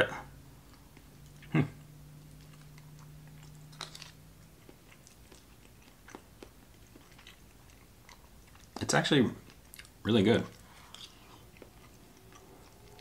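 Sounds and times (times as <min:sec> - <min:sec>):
faint chewing: 0:00.6 - 0:13.0.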